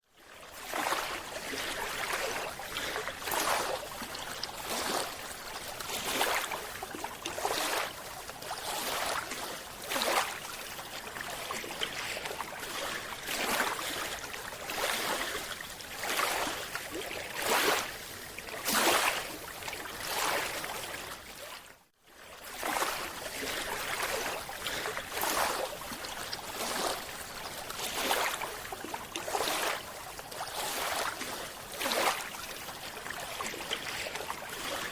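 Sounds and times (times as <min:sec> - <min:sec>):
water sloshing and splashing: 0:00.2 - 0:34.9.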